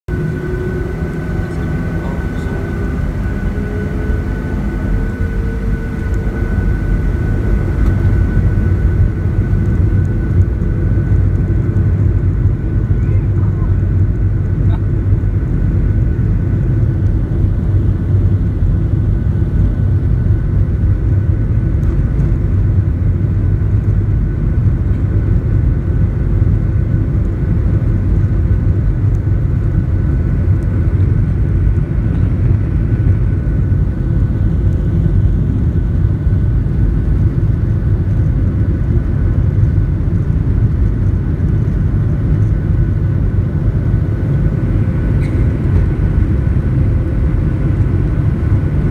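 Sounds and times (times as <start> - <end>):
faint engine whine: 0.1 - 48.9
jet engines loud rumble: 0.1 - 48.9.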